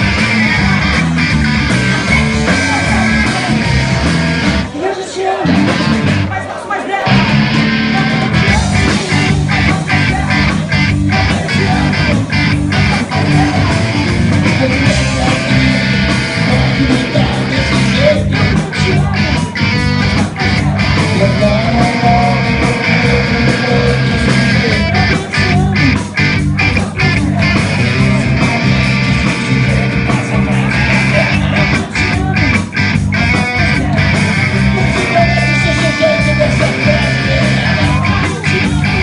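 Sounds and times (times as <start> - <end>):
electric guitar: 0.0 - 6.4, 7.1 - 39.0
bass line: 0.0 - 39.0
live rock band playing blues: 0.0 - 39.0.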